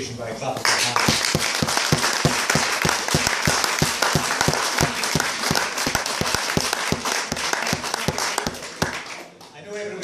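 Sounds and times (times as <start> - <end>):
audience applauding: 0.6 - 9.4.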